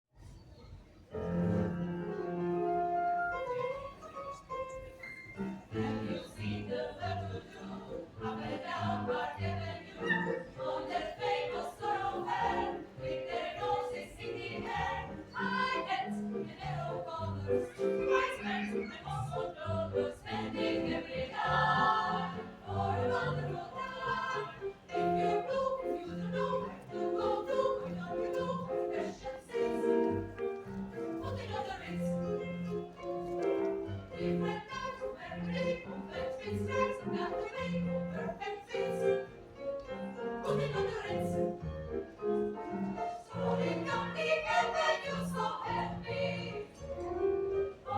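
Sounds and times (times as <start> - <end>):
choir singing: 5.4 - 47.9.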